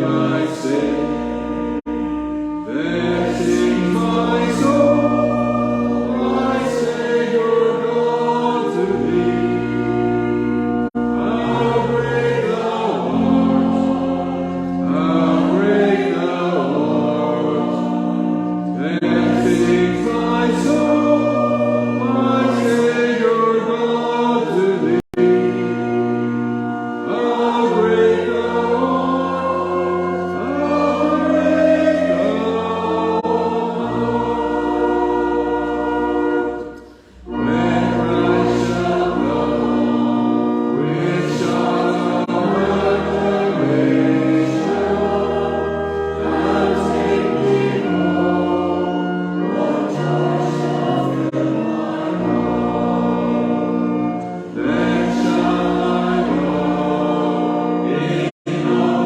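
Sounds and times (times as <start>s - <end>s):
many voices singing a hymn: 0.0s - 59.0s.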